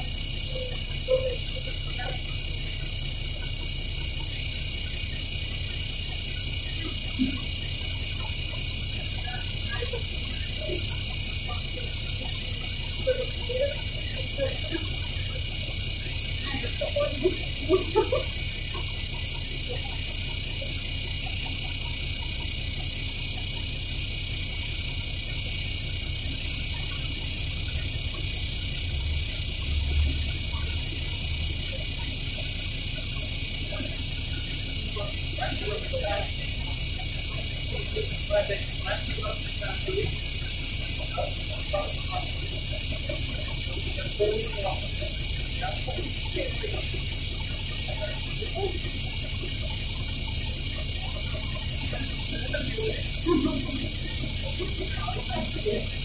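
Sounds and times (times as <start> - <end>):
constant high hiss: 0.0 - 56.0
diesel bus engine idling: 0.0 - 56.0
steady high-pitched tones: 0.0 - 56.0.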